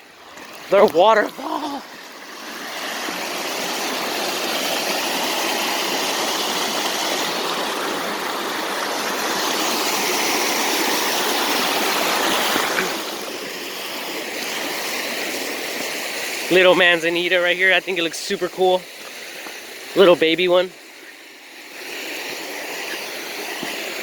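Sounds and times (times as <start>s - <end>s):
water running over small waterfall: 0.0s - 24.0s.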